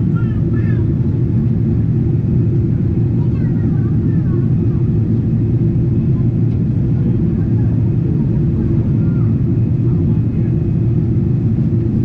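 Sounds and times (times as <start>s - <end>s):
airplane engines rumbling in cabin: 0.0s - 12.0s.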